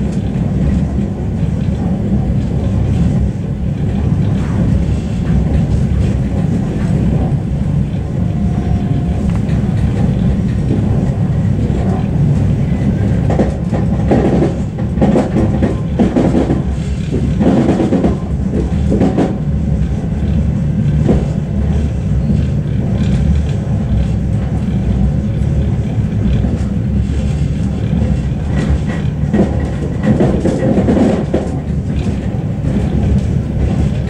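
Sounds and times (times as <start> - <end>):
train clattering and knocking: 0.0 - 34.0
train wheels rumbling on rails: 0.0 - 34.0.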